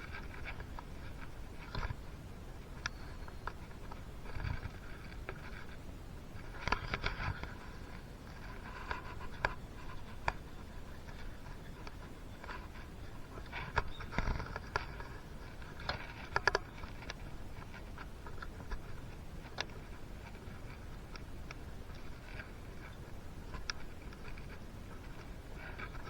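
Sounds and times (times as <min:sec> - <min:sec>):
light clicks and taps on engine parts: 0:02.8 - 0:26.0.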